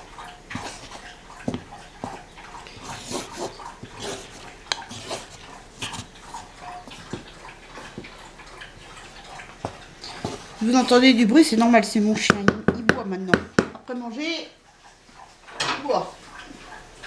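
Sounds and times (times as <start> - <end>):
dog lapping water: 0.0 - 12.2, 14.6 - 17.0.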